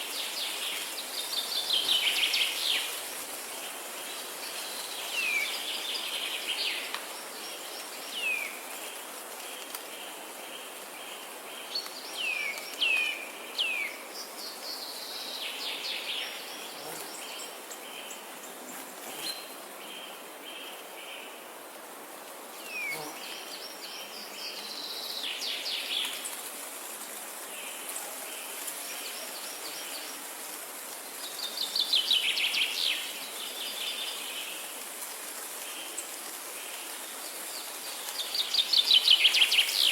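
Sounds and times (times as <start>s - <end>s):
high insect hum: 0.0s - 39.9s.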